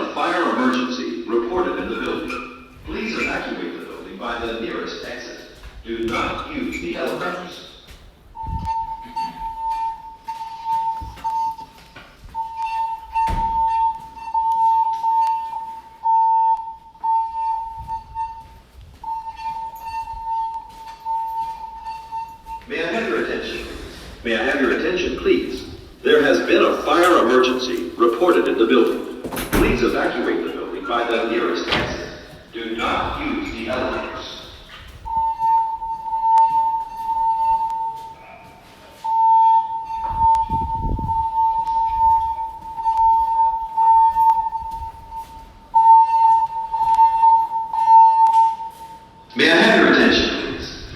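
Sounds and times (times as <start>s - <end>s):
voice evacuation messages: 0.0s - 9.8s, 19.1s - 50.9s
fire alarm high tone: 0.8s - 50.9s.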